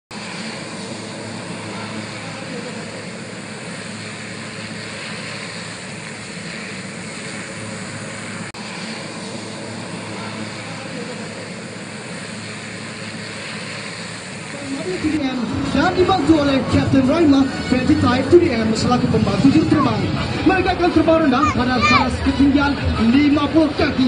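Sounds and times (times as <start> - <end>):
aircraft engine drone: 0.1 - 24.0.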